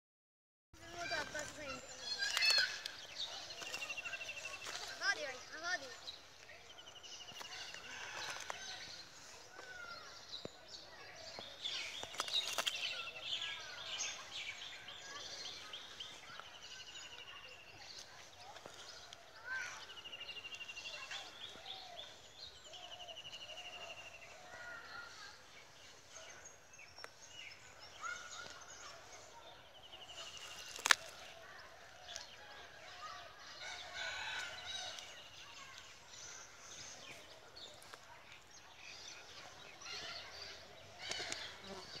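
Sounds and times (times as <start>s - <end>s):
birds chirping and trilling: 0.8s - 42.0s.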